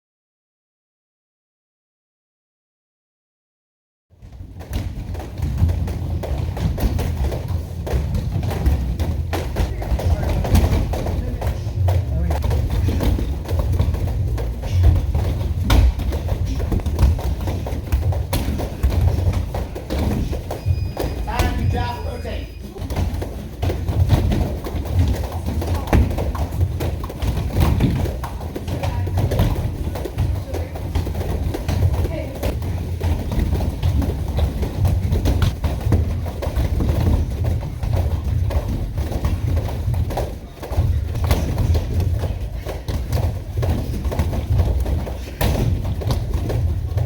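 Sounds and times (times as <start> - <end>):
thuds and footfalls on mats: 4.2 - 47.0.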